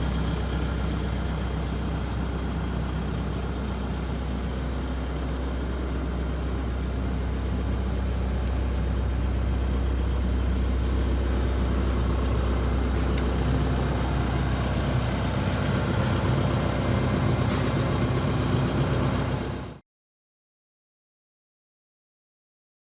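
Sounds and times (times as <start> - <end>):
excavator diesel engine running: 0.0 - 19.8.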